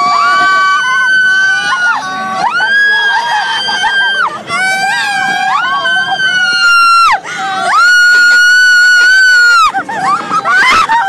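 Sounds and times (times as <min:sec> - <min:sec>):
riders screaming: 0:00.0 - 0:11.0.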